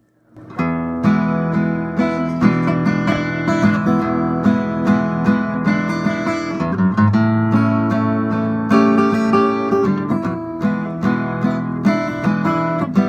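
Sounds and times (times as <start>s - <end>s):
acoustic guitar strumming chords: 0.3s - 13.0s.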